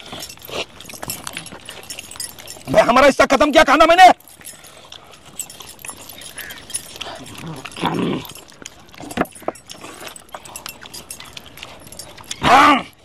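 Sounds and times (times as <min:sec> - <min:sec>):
small clicks and clinks: 0:00.0 - 0:12.5.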